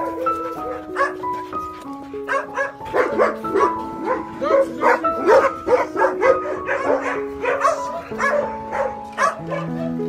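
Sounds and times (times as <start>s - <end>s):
music with long held notes: 0.0s - 10.0s
dog barking: 0.1s - 1.2s, 2.3s - 10.0s.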